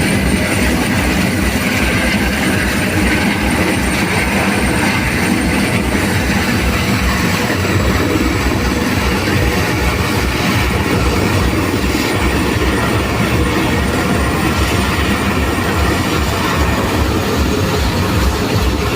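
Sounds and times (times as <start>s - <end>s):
helicopter rotor and engine: 0.0s - 18.9s.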